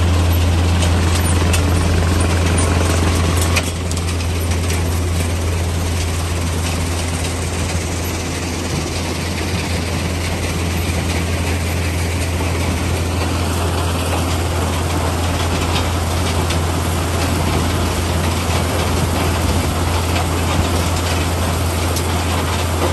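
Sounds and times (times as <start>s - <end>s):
deep machine drone: 0.0s - 22.9s.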